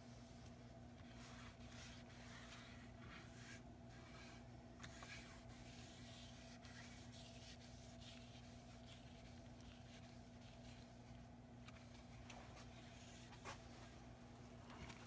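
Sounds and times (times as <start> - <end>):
steady low hum: 0.0 - 15.0
gloved hand rubbing wood: 1.1 - 13.8.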